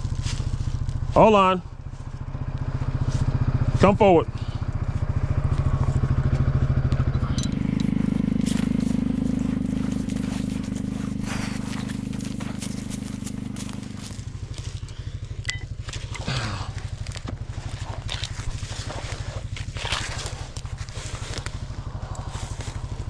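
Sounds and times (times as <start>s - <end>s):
utility vehicle engine idling: 0.0s - 23.0s.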